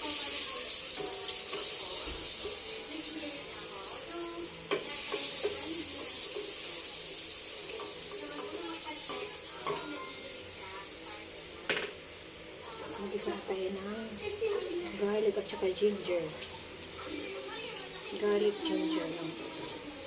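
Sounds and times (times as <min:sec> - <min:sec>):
butter sizzling in a pan: 0:00.0 - 0:20.0.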